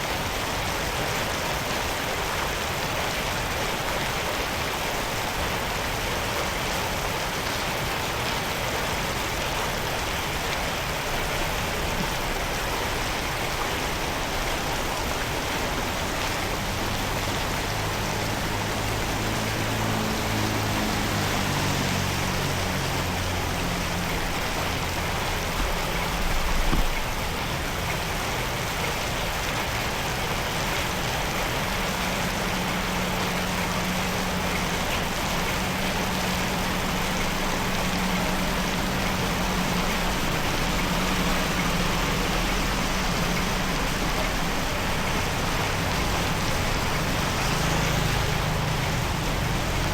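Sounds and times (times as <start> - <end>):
floodwater rushing into drain: 0.0 - 49.9
vehicle engine hum: 0.0 - 49.9.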